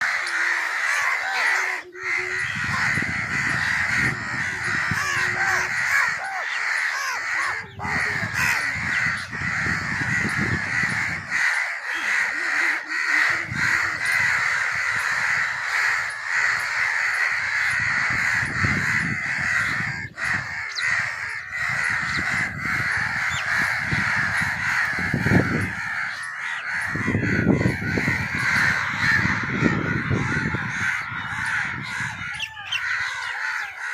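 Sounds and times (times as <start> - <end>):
crows cawing: 0.0 - 33.9.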